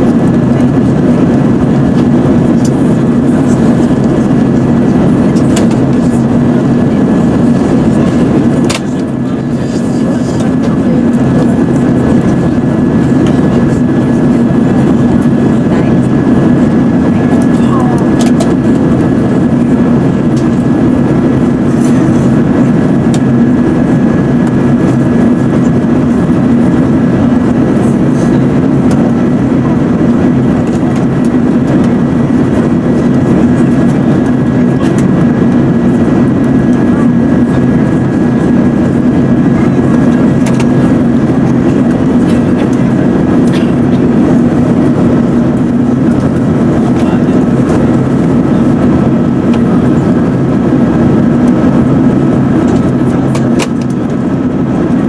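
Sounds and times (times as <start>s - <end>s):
airplane cabin engine and airflow noise: 0.0s - 55.0s.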